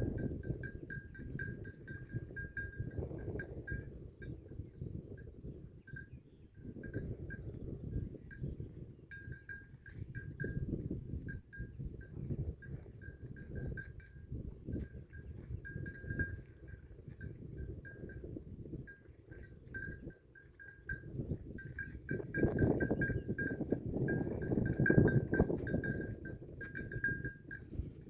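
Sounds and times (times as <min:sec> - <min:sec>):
animal bells clinking: 0:00.0 - 0:28.0.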